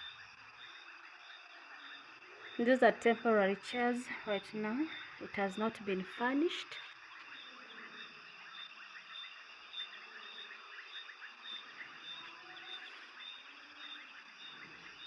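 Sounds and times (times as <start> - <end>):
frogs calling: 0.0 - 15.0
insects calling: 0.0 - 15.0.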